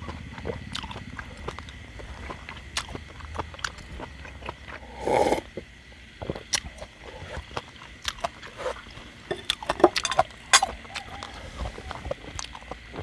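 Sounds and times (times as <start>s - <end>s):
chewing and lip smacking: 0.0s - 4.9s, 6.2s - 13.0s.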